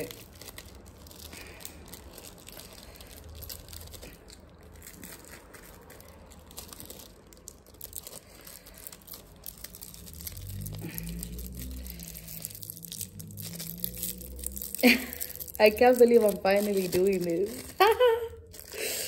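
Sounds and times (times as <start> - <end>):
plastic film crinkling and tearing: 0.0 - 19.0.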